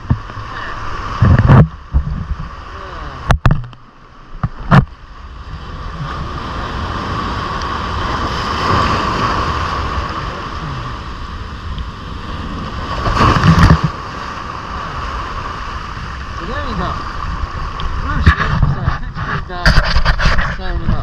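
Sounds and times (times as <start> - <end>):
sea washing on rocks: 0.0 - 21.0
wave crashing on boulders: 0.0 - 21.0.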